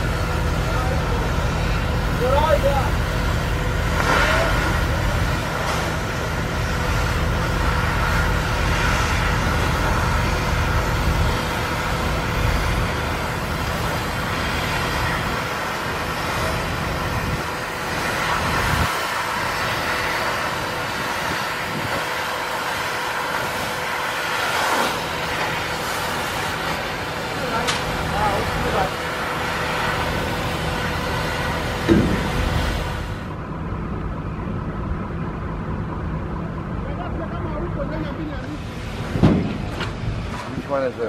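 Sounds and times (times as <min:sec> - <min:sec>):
constant hum: 0:00.0 - 0:41.0
low engine-like rumble: 0:00.0 - 0:41.0.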